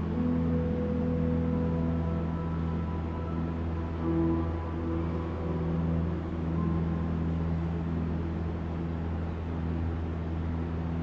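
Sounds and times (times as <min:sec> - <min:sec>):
ambient drone music: 0:00.0 - 0:11.0.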